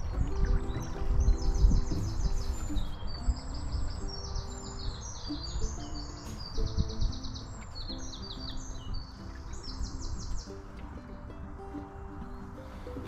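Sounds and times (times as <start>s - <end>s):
background music of held notes: 0.0s - 13.0s
songbirds trilling: 0.0s - 13.0s.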